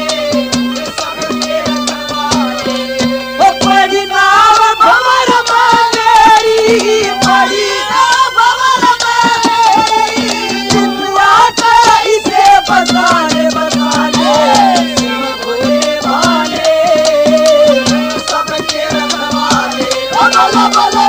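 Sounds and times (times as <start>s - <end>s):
fast hand-drum beat: 0.0s - 21.0s
wavering folk melody: 0.0s - 21.0s.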